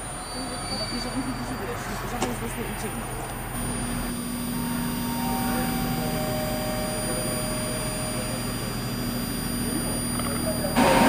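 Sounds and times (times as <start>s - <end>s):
faint high held tones: 0.0s - 11.0s
mechanical hum: 0.0s - 11.0s.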